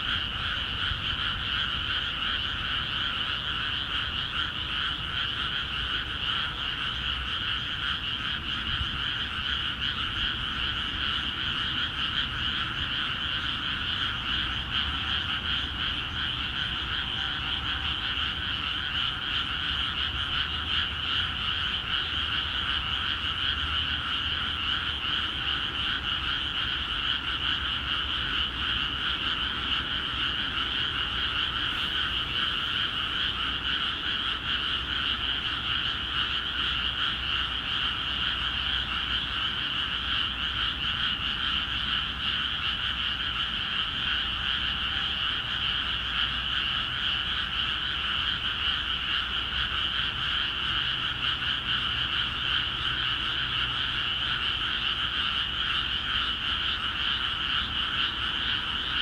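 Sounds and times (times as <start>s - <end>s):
chorus of frogs croaking: 0.0s - 59.0s.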